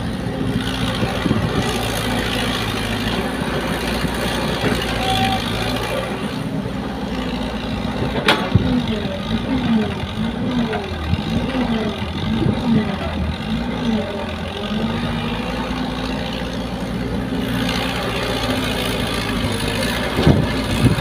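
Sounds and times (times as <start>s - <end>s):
excavator diesel engine working: 0.0s - 21.0s.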